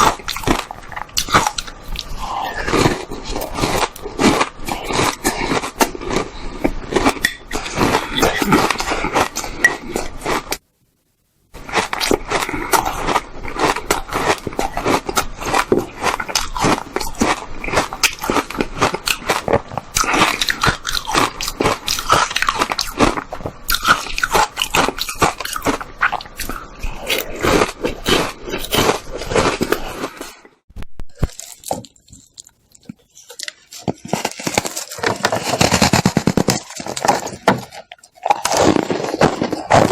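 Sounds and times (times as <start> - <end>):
person crunching ice: 0.0 - 10.6, 11.6 - 39.9.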